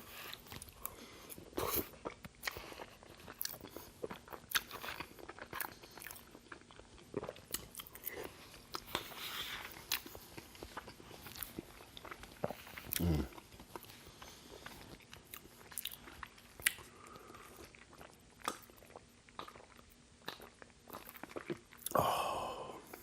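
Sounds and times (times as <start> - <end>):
wet chewing: 0.1 - 22.0.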